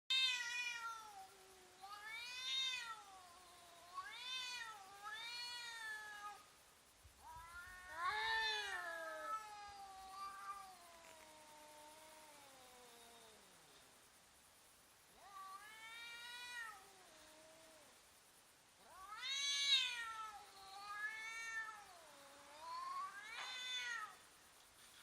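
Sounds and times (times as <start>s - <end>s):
cats yowling: 0.1s - 6.4s, 7.2s - 13.2s, 15.2s - 17.8s, 18.8s - 24.2s.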